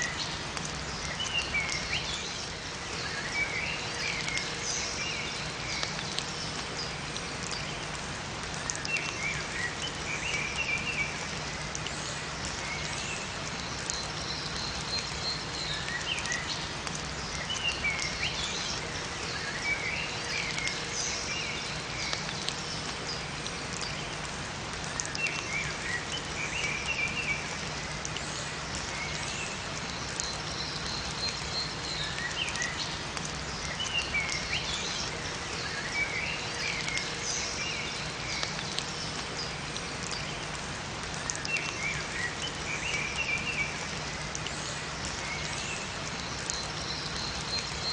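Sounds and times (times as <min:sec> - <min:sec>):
songbirds chirping: 0:00.0 - 0:47.9
steady rain in forest: 0:00.0 - 0:47.9.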